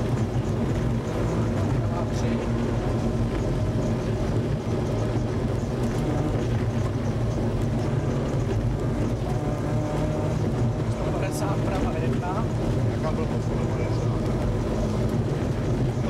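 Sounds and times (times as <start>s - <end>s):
car engine running from inside cabin: 0.0s - 16.0s.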